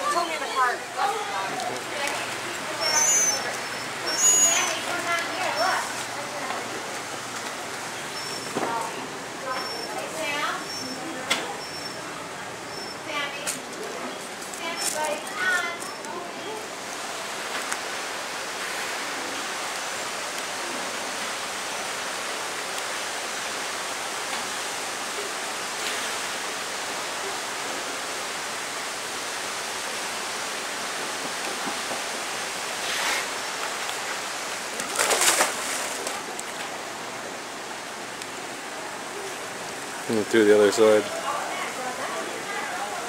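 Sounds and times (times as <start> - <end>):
flowing water rushing: 0.0 - 43.0.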